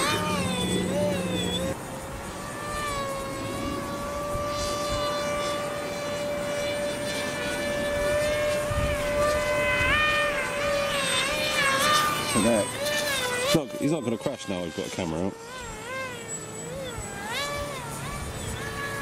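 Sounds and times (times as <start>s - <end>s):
model plane motors whining: 0.0s - 19.0s.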